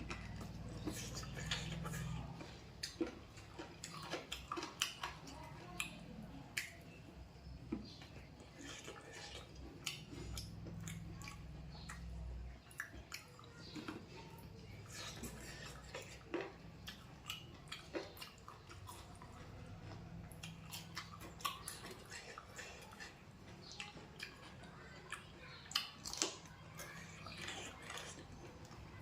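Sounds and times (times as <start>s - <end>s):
faint low hum: 0.0s - 29.0s
person chewing with wet clicks: 0.0s - 29.0s.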